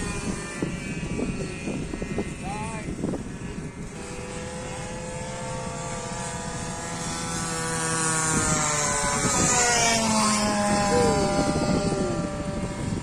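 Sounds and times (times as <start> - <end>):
model plane motor in flight: 0.0 - 13.0.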